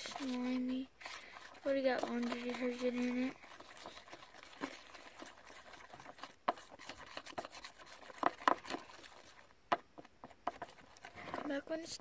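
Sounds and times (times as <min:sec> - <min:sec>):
spoon scraping plastic bowl: 0:00.0 - 0:11.8.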